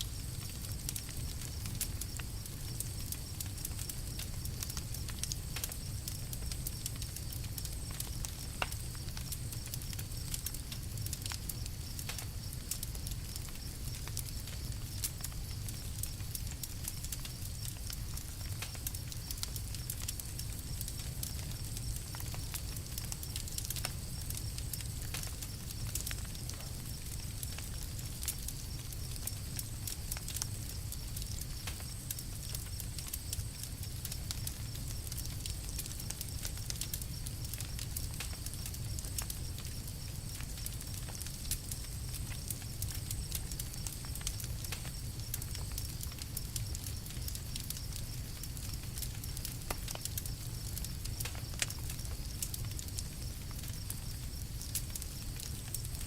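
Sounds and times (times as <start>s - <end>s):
campfire crackling and popping: 0.0s - 56.0s
low rumble of burning fire: 0.0s - 56.0s.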